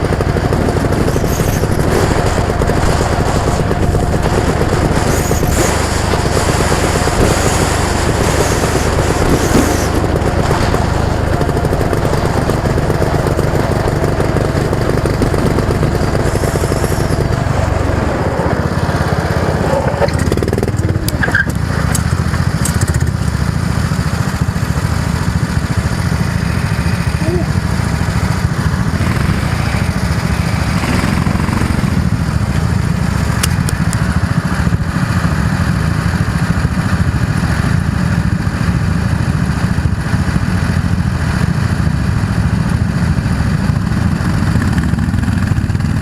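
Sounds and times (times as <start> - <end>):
road or wind noise: 0.0 - 46.0
vehicle engine running: 0.0 - 46.0.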